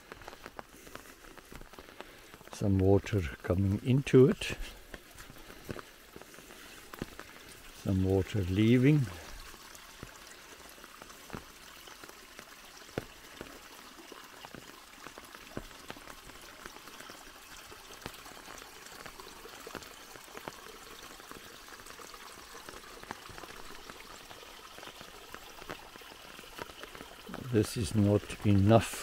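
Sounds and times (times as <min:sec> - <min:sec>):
water trickling and splashing: 0:00.0 - 0:29.0.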